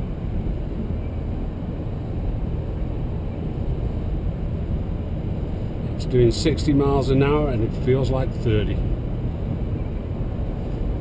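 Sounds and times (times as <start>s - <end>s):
road rumble inside car cabin: 0.0s - 11.0s.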